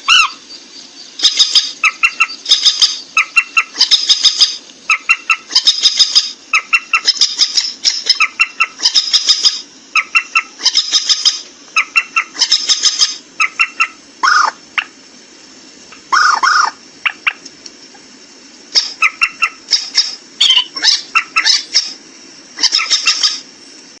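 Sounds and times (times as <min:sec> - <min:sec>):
waterhen calling harsh notes: 0:00.0 - 0:15.0, 0:15.9 - 0:17.4, 0:18.7 - 0:23.5.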